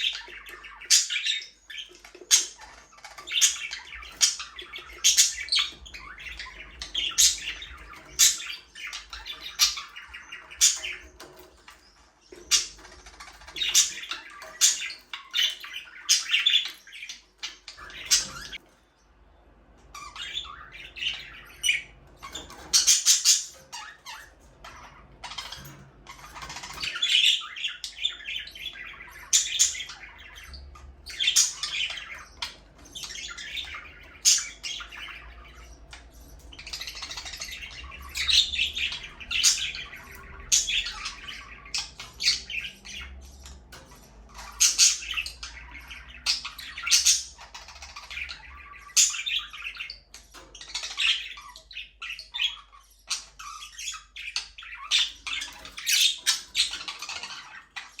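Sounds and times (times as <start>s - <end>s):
budgerigars chirping: 0.0s - 18.8s, 19.8s - 58.0s.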